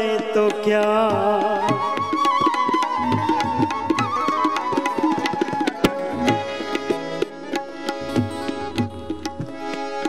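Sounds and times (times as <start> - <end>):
hand drum rhythm: 0.0 - 10.0
held melody notes: 1.6 - 10.0.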